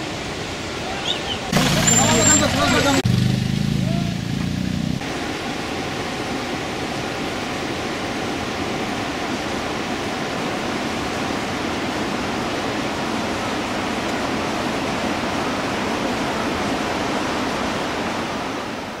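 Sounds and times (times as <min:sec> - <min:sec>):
flowing water: 0:00.0 - 0:03.0, 0:05.0 - 0:19.0.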